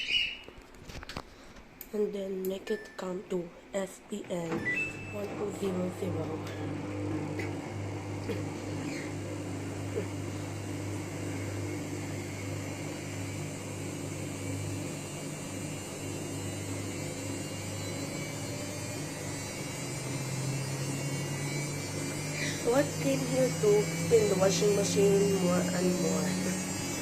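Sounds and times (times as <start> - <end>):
washing machine spinning: 4.1 - 27.0.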